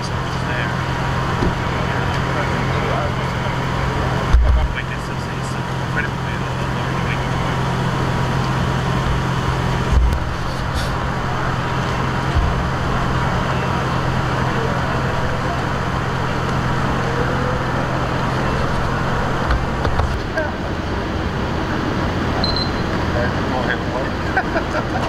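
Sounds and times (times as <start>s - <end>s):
constant low hum: 0.0s - 25.0s
street noise at night: 0.0s - 25.0s.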